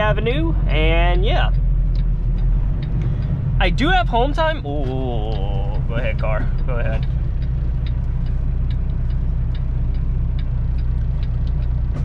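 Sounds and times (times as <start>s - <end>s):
diesel engine idling: 0.0s - 12.0s
light even ticking: 0.0s - 12.0s.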